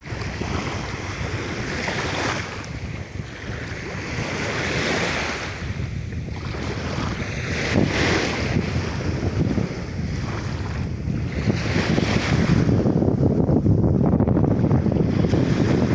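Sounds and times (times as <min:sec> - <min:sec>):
sea waves washing in: 0:00.0 - 0:15.9
wind rumbling on microphone: 0:00.0 - 0:15.9.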